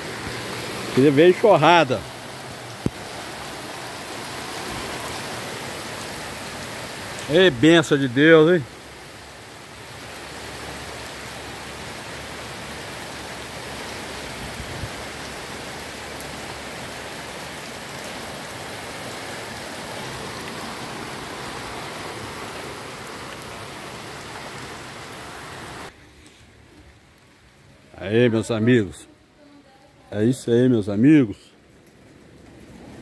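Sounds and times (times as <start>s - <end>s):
rain on wet pavement: 0.0s - 33.0s.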